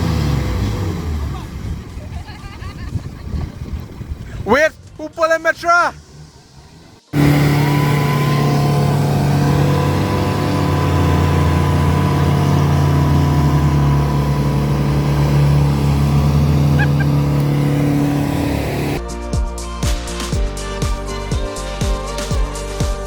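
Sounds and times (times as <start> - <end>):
off-road vehicle engine running: 0.0 - 2.4, 5.6 - 22.5.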